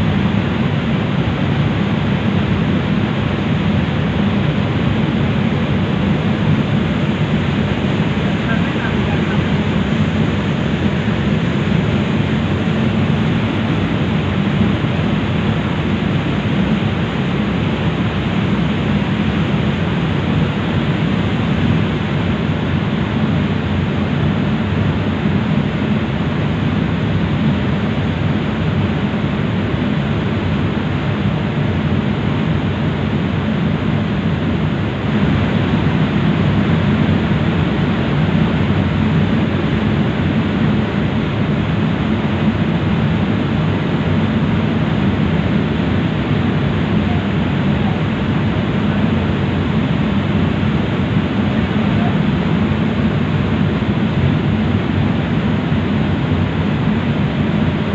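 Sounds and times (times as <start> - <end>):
ferry engine drone: 0.0 - 57.9.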